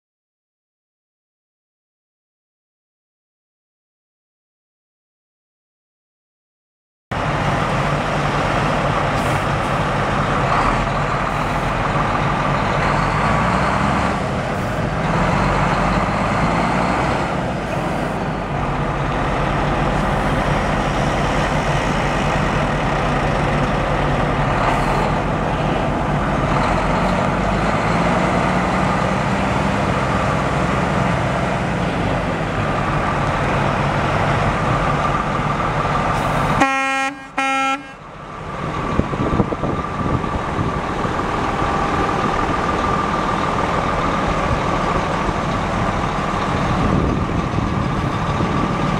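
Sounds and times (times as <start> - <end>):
diesel truck engine idling: 7.2 - 48.9.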